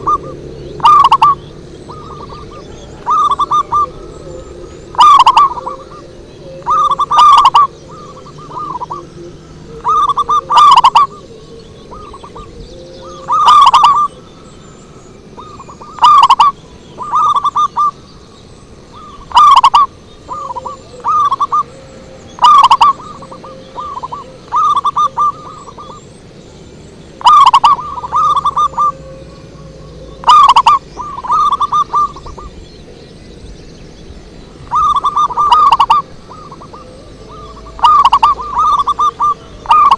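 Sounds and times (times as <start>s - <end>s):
dove cooing: 0.0s - 18.1s, 18.8s - 26.4s, 27.1s - 33.0s, 34.4s - 39.9s.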